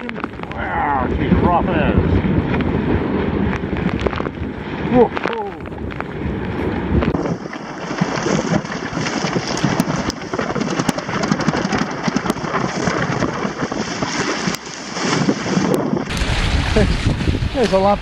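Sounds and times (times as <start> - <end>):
waves slapping against hull: 0.0 - 18.0.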